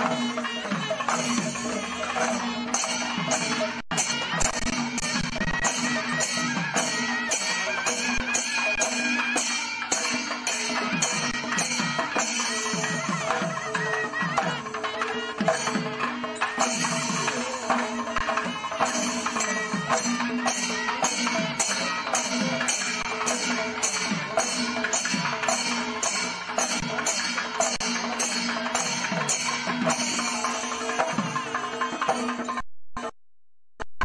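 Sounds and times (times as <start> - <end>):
folk percussion music: 0.0 - 33.2.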